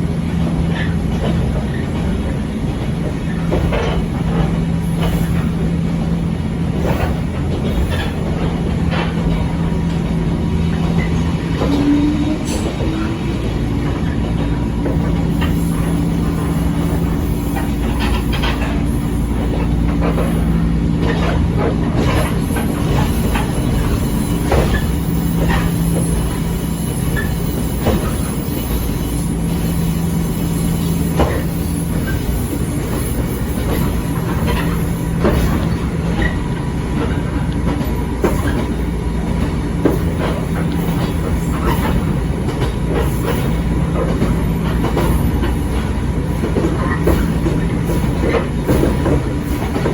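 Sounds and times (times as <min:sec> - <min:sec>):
train rumble and hum: 0:00.0 - 0:49.9
wheels clicking over rail joints: 0:00.5 - 0:49.9.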